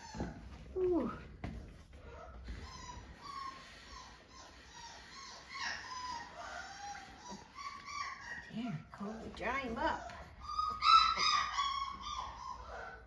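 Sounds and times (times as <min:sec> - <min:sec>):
puppy whining and whimpering: 0:00.0 - 0:01.4, 0:02.0 - 0:13.0.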